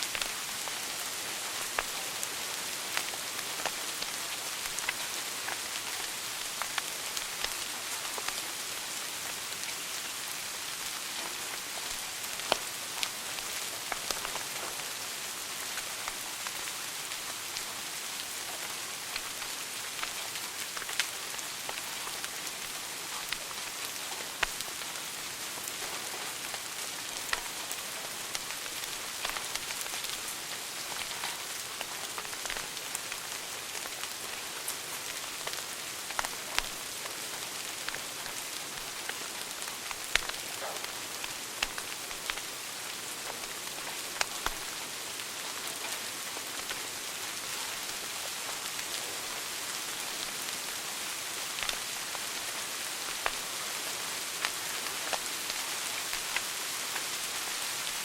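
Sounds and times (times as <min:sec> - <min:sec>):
fire crackling and popping: 0:00.1 - 0:10.0, 0:10.7 - 0:49.1, 0:51.4 - 0:53.6, 0:54.2 - 0:58.0
wood fire hissing: 0:00.1 - 0:49.2.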